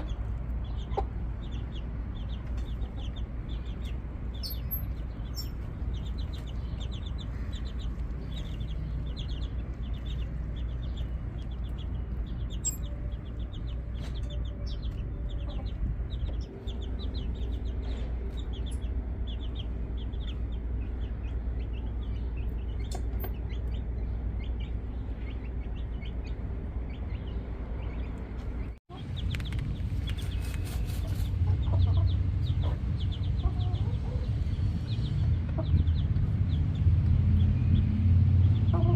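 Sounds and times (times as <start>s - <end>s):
chickens calling: 0.0s - 36.8s, 37.4s - 38.9s.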